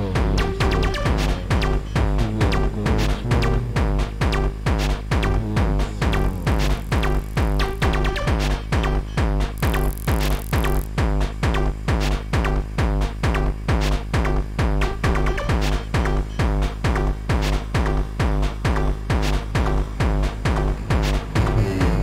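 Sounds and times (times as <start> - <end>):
techno music with kick drum: 0.0 - 22.0.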